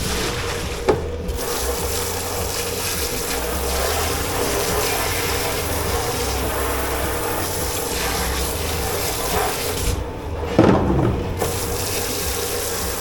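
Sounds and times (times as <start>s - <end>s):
machine hum: 0.0s - 13.0s
running water: 0.0s - 13.0s.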